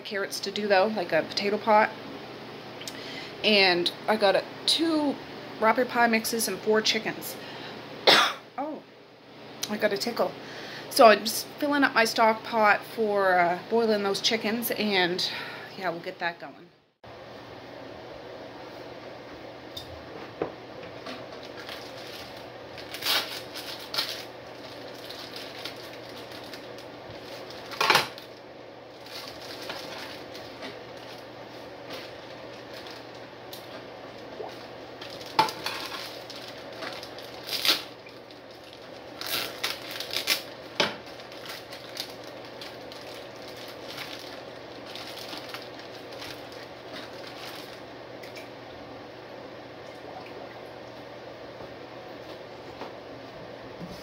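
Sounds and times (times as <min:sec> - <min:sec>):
room fan humming: 0:00.0 - 0:54.0.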